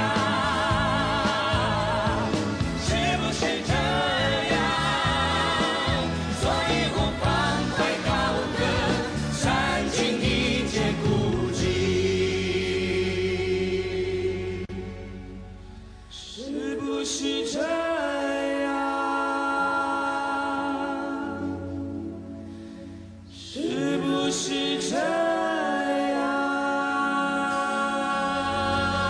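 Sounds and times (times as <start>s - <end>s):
choir-like singing music: 0.0s - 29.0s.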